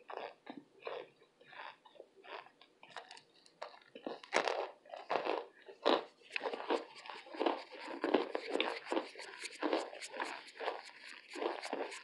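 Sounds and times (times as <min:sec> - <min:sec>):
chewing and crunching: 0:00.0 - 0:12.0.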